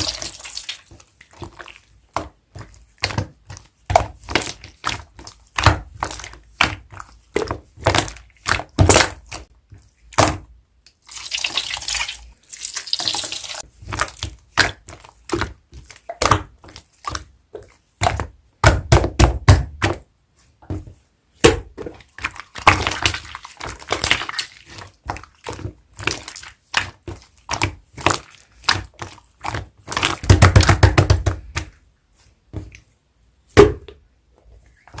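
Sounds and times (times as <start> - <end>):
crackling slime squelches: 0.0 - 18.4, 21.9 - 31.7.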